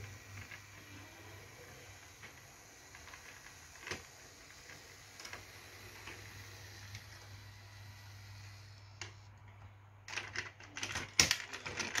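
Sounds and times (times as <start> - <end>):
toy locomotive whirring: 0.0 - 9.4, 10.2 - 12.0.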